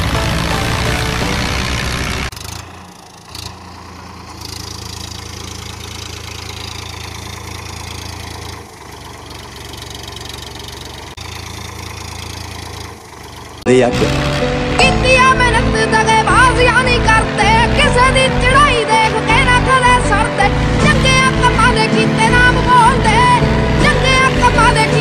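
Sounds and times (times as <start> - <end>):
model tractor engine hum: 0.0 - 25.0.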